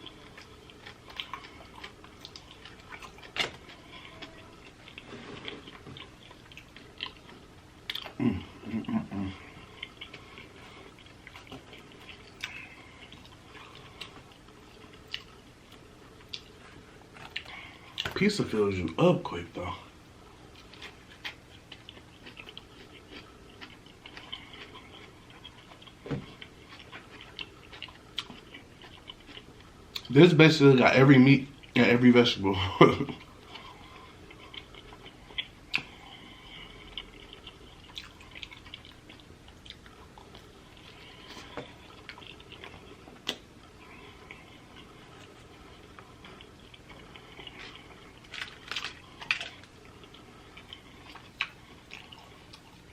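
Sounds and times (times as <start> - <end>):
chewing pizza: 0.0 - 52.9.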